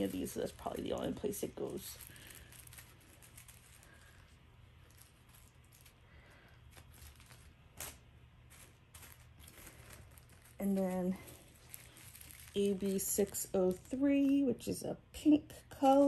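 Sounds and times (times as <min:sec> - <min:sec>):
plastic bags ticking and rustling: 0:00.0 - 0:14.5.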